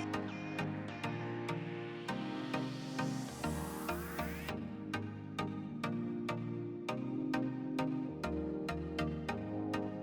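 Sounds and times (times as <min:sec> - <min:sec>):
electronic music with synth: 0:00.0 - 0:10.0.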